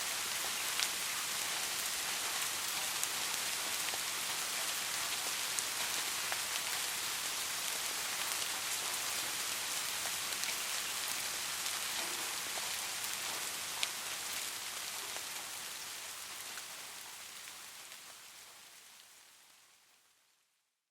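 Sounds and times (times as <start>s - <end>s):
soft rain falling: 0.0s - 20.8s.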